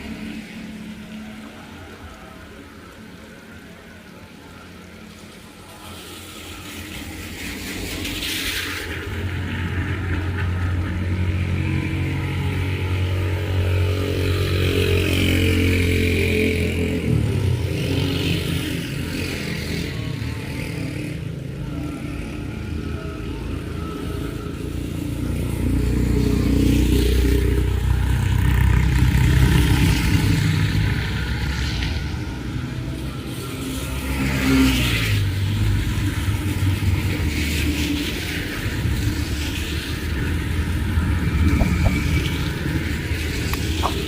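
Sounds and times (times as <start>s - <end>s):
vehicle engines running: 0.0s - 44.0s.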